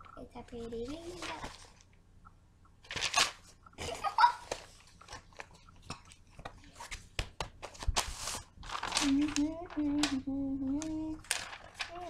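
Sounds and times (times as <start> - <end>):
paper pages rustling: 0.4 - 1.9, 2.8 - 12.0.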